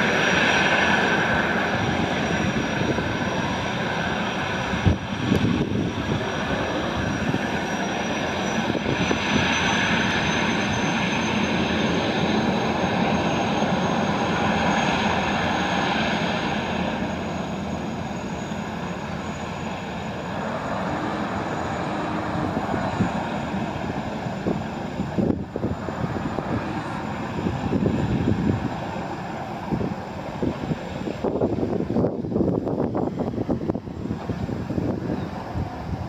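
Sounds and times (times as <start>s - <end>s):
gas turbine jet noise: 0.0s - 36.0s
high turbine whine: 0.0s - 36.0s.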